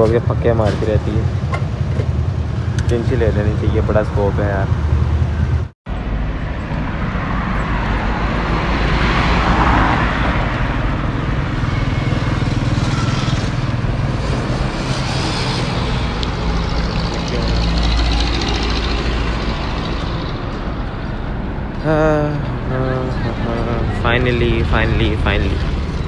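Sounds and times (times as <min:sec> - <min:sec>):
road traffic rumble: 0:00.0 - 0:26.0
vehicle passing: 0:00.0 - 0:26.0.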